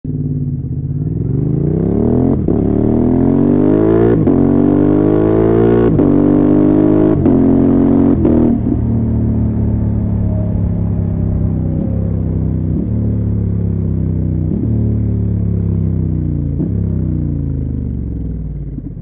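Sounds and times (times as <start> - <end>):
motorcycle engine accelerating hard: 0.1 - 19.0.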